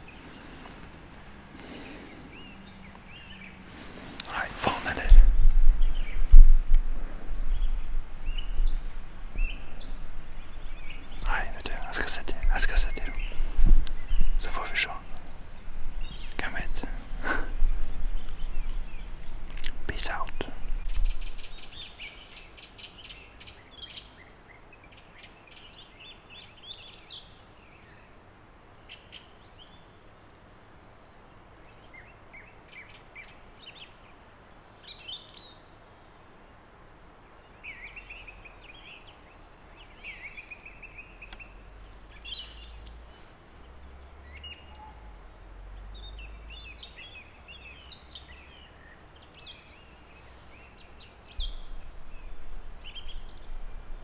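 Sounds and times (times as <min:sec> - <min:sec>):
faint background hiss: 0:00.0 - 0:54.0
songbirds chirping: 0:00.0 - 0:54.0.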